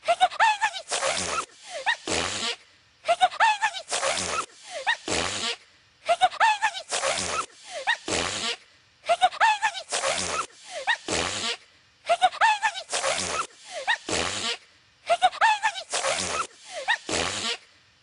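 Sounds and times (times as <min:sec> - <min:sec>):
cartoon character sneezing: 0:00.2 - 0:02.6, 0:03.2 - 0:05.6, 0:06.2 - 0:08.6, 0:09.2 - 0:11.6, 0:12.2 - 0:17.6.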